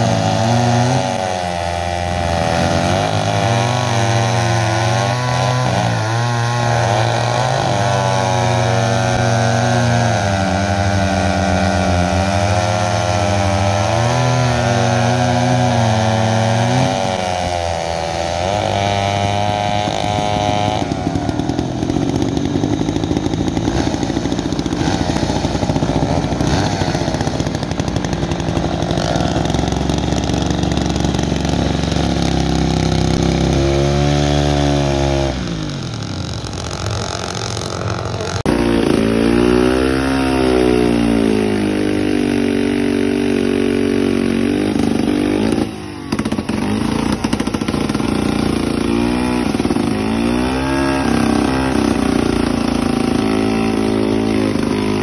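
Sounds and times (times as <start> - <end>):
chainsaws cutting logs: 0.0 - 55.0.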